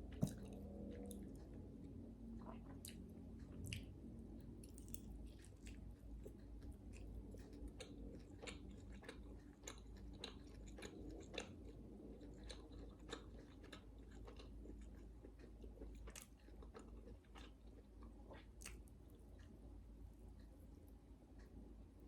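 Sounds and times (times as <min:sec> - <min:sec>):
chewing crispy food: 0:00.0 - 0:21.6.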